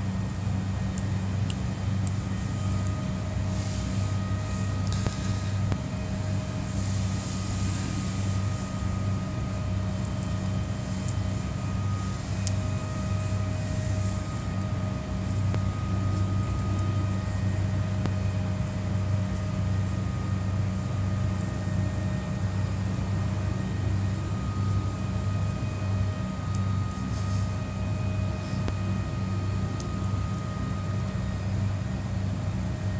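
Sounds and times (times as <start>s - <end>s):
faint high whining tones: 0.0s - 32.9s
low machine hum: 0.0s - 32.9s.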